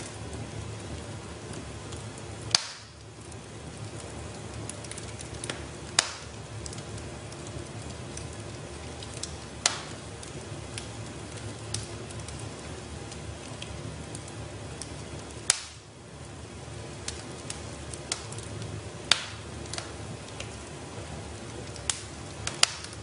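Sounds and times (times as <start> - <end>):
sharp pops from fire: 0.0 - 23.0
wood fire crackling: 0.0 - 23.0.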